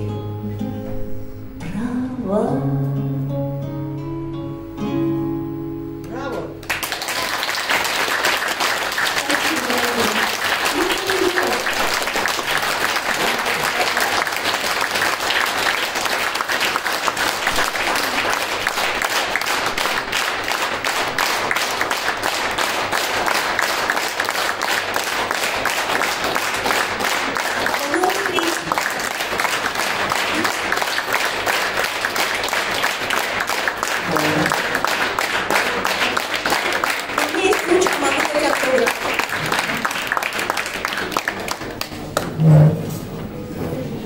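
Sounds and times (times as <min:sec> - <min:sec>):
audience applauding: 0:06.6 - 0:42.4.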